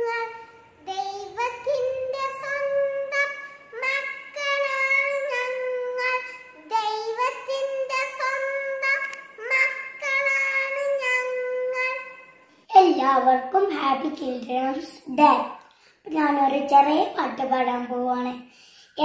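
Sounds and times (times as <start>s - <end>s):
girl singing: 0.0s - 19.0s.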